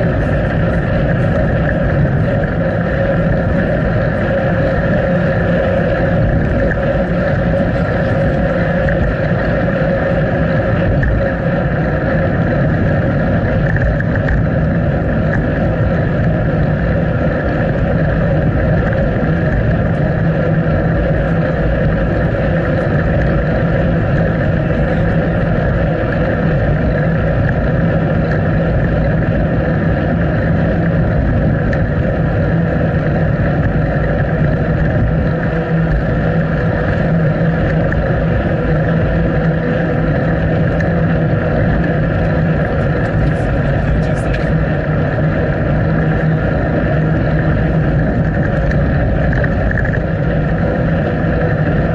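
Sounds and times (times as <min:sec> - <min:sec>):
bicycle rolling: 0:00.0 - 0:51.9
wind buffeting microphone: 0:00.0 - 0:51.9.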